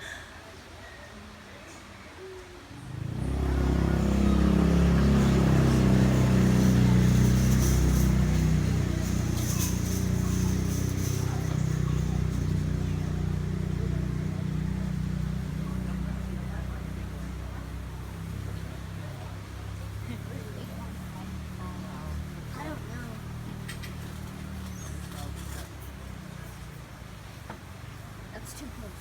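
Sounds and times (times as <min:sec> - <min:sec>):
engine running: 0:02.8 - 0:28.9.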